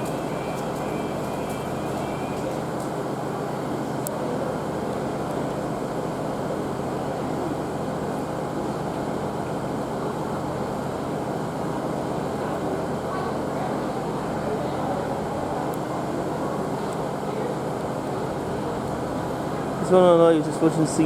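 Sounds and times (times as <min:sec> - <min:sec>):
train engine idling: 0:00.0 - 0:21.0.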